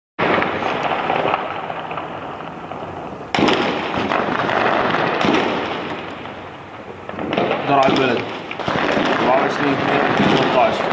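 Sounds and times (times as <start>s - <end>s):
heavy gunfire crackling: 0.2s - 10.9s.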